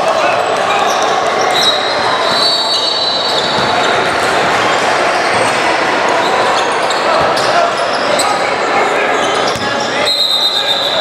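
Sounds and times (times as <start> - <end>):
echoing crowd voices: 0.0 - 11.0.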